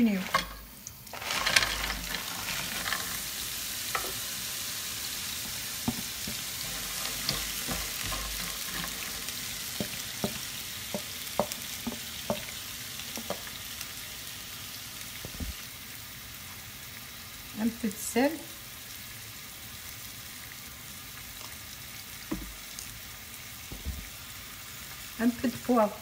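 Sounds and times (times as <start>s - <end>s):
mushrooms sizzling in oil: 0.0s - 26.0s.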